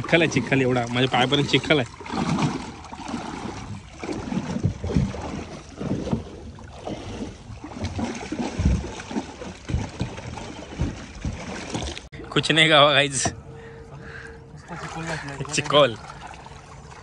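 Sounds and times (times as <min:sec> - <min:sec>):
creek water sloshing and splashing: 0:00.0 - 0:17.0.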